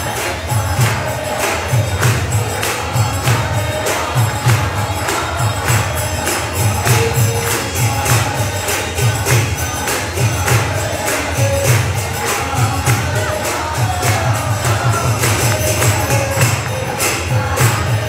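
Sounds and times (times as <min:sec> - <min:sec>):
jingling hand cymbals: 0:00.0 - 0:18.0
voices singing a chant: 0:00.0 - 0:18.0.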